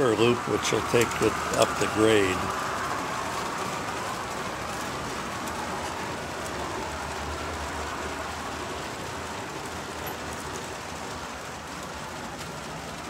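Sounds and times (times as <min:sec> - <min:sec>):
locomotive sounds through small speaker: 0:00.0 - 0:13.0
toy train motors and wheels rolling: 0:00.0 - 0:13.0.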